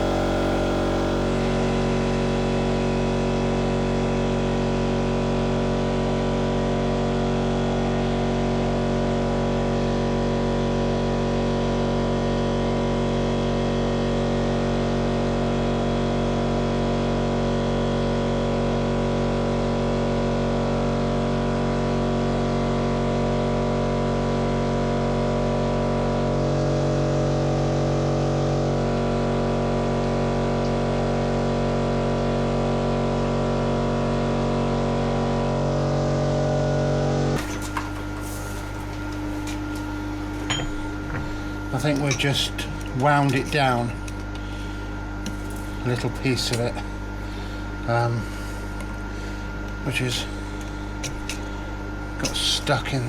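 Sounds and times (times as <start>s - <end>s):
milling machine humming: 0.0s - 15.6s, 25.7s - 53.0s.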